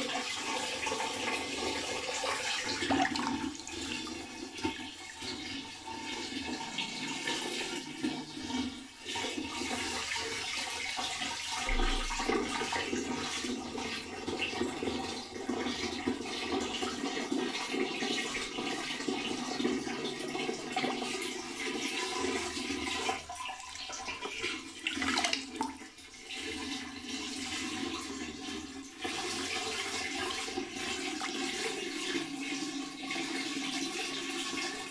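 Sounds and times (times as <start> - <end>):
water swirling down drain: 0.0 - 34.9.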